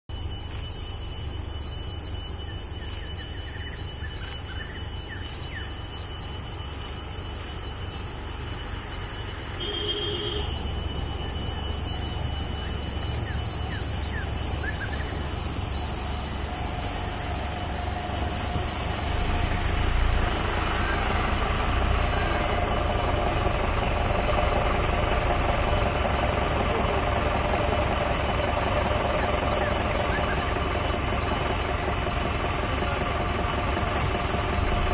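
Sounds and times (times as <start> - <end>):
engine idling: 0.1 - 34.9
high-pitched hiss: 0.1 - 34.9.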